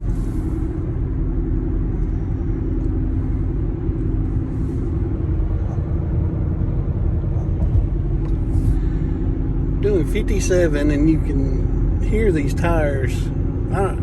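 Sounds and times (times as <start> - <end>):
faint droning hum: 0.0 - 14.0
tire roar inside car: 0.0 - 14.0.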